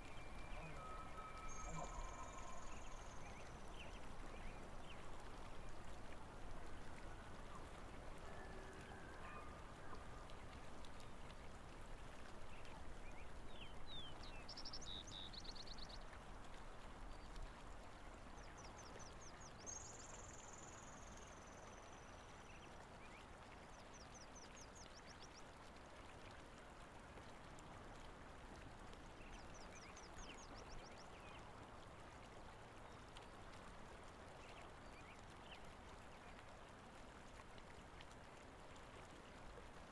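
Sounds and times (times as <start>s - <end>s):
low hiss: 0.0s - 39.9s.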